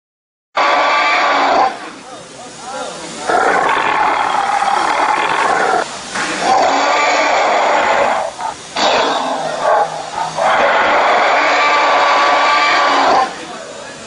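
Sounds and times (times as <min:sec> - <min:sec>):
dinosaur roar sound effect: 0:00.6 - 0:01.8, 0:03.2 - 0:13.4.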